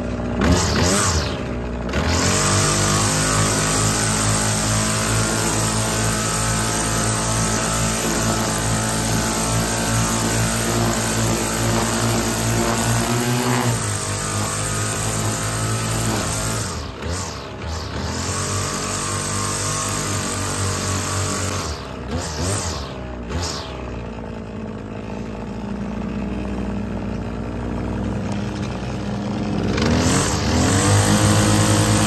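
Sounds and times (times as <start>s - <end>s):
string trimmer cutting grass: 0.0s - 32.0s.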